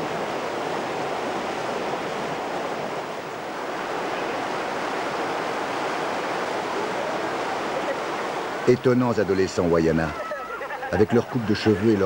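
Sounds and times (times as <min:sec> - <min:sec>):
whitewater rushing over rocks: 0:00.0 - 0:12.0.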